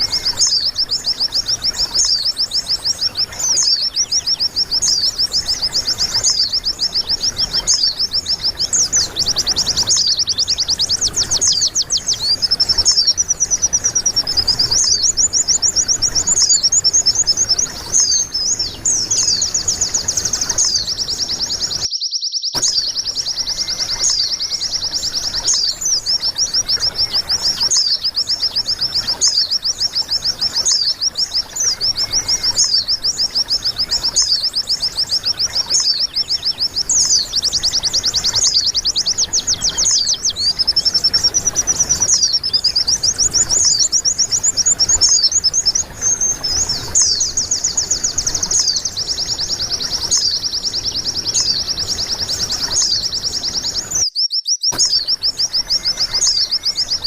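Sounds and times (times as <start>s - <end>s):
bird singing high chirps and trills: 0.0s - 57.0s.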